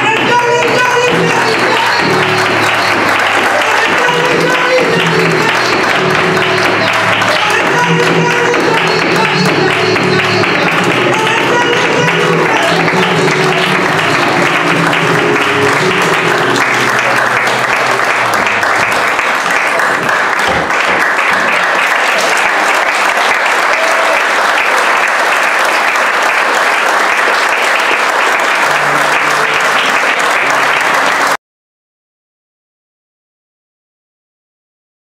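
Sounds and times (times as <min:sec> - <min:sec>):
flamenco music: 0:00.0 - 0:24.1, 0:26.8 - 0:31.4
audience applauding loudly: 0:00.0 - 0:31.4.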